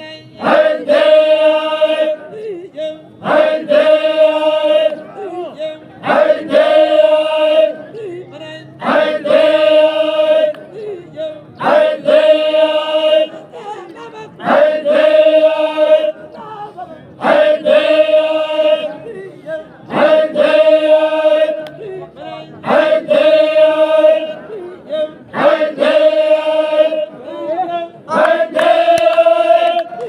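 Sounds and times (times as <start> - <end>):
men chanting in unison: 0.0 - 30.0.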